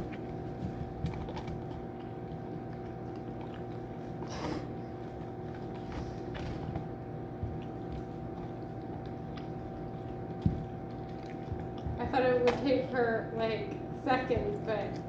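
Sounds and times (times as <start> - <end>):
dog crunching a hard cookie: 0.0 - 12.8
steady background hum: 0.0 - 15.0.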